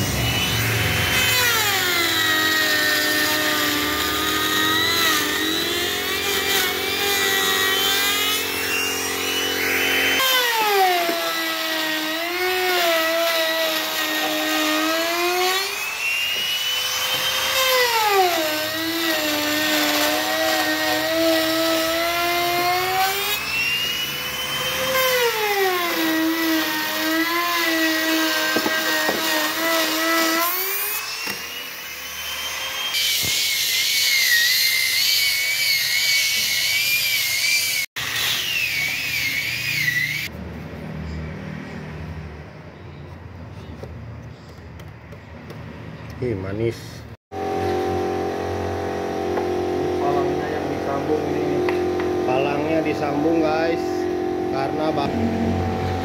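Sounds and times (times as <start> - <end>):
router cutting wood: 0.0 - 40.3, 47.3 - 56.0.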